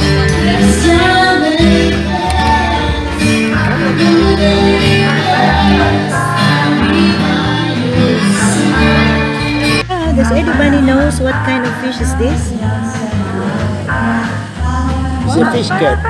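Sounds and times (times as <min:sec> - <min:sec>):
guitar-led song with singing: 0:00.0 - 0:16.0.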